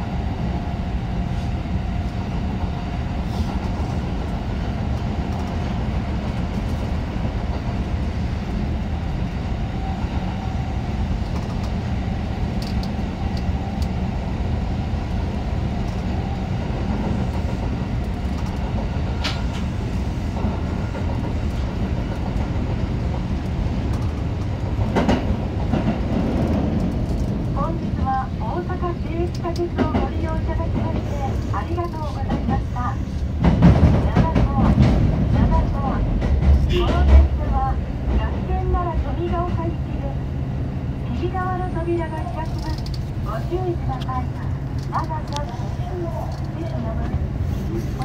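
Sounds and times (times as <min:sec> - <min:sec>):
subway train rumbling in tunnel: 0:00.0 - 0:48.0.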